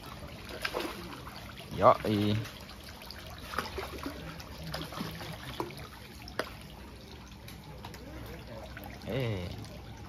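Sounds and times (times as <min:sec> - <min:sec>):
fish splashing: 0:00.0 - 0:10.0
watery background: 0:00.0 - 0:10.0.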